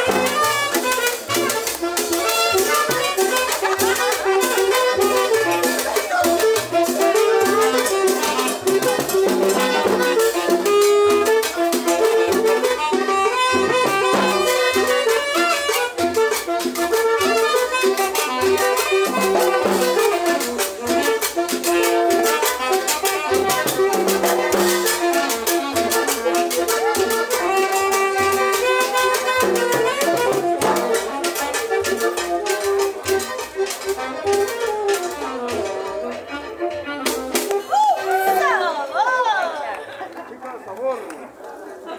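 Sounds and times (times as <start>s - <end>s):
upright bass: 0.0s - 38.4s
conga drums: 0.0s - 38.5s
saxophone: 0.0s - 38.6s.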